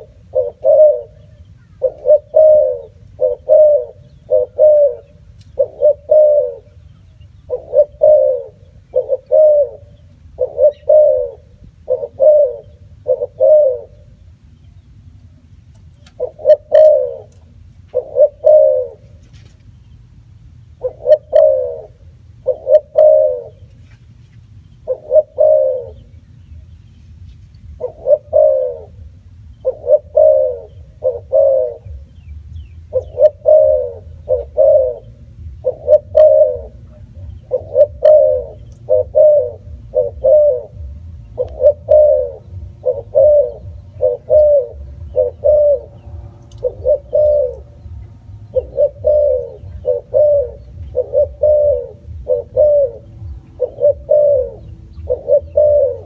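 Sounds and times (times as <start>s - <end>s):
dove cooing: 0.0s - 14.3s, 15.7s - 19.6s, 20.6s - 26.7s, 27.3s - 56.0s.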